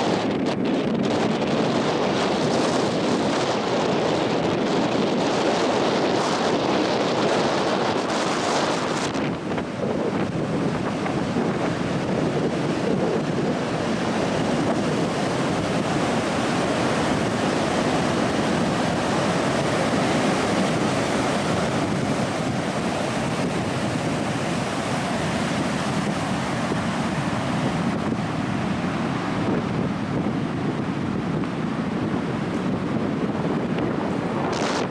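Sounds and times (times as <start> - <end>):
surf breaking on beach: 0.0 - 34.9
wind buffeting microphone: 0.0 - 34.9.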